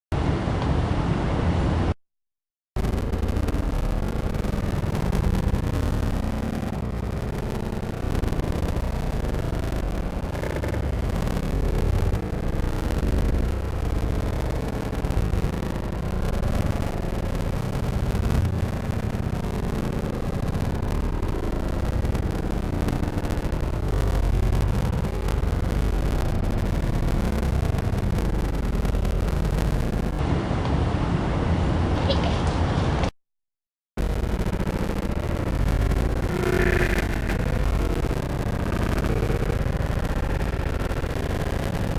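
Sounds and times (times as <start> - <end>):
low outdoor rumble: 2.8 - 33.1, 34.0 - 41.9.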